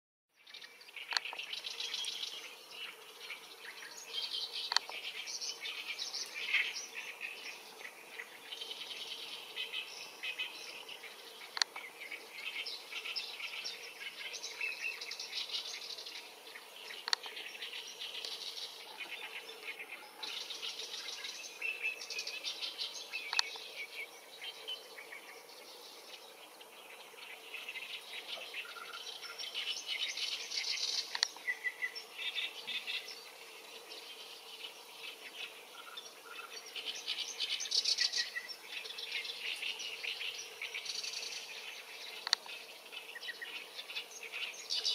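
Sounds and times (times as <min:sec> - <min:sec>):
songbirds singing: 0:00.3 - 0:44.9.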